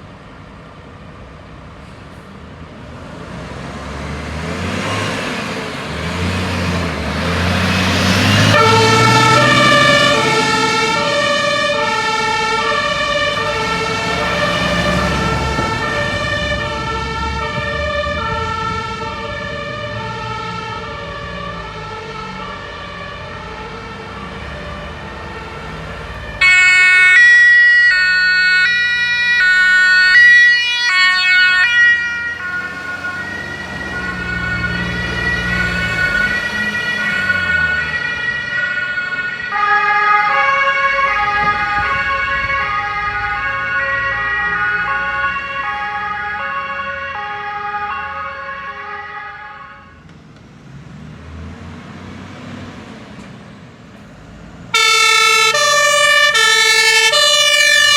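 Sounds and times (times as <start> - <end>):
truck engine: 0.0 - 57.9
fire engine two-tone siren: 4.0 - 50.2, 54.7 - 57.9
loud two-tone siren: 4.3 - 50.1, 54.7 - 57.9.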